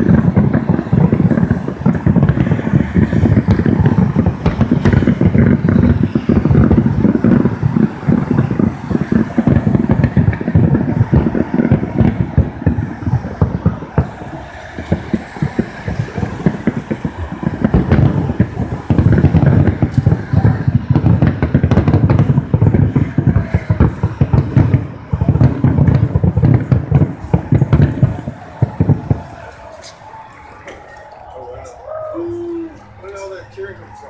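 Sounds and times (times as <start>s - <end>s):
fireworks booming and crackling: 0.0s - 34.0s.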